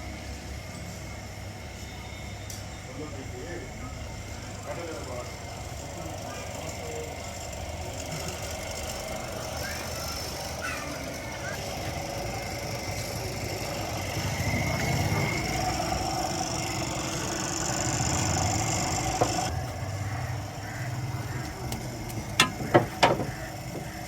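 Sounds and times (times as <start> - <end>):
car engine running: 4.3 - 24.0.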